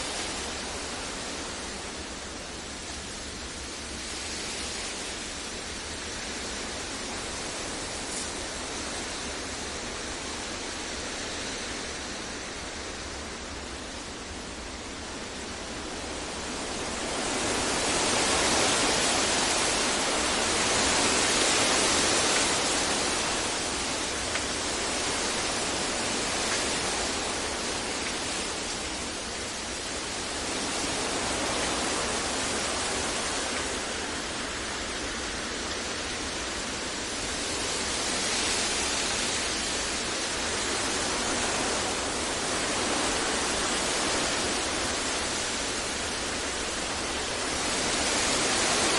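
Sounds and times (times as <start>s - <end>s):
even sleep noise hiss: 0.0s - 48.9s.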